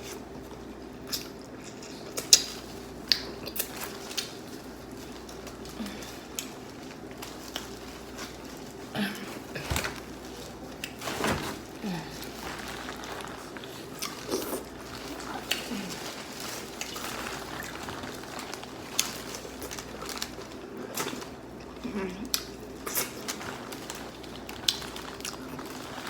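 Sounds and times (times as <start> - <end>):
faint steady hum: 0.0 - 26.0
wet squishing of eating food: 0.0 - 26.0.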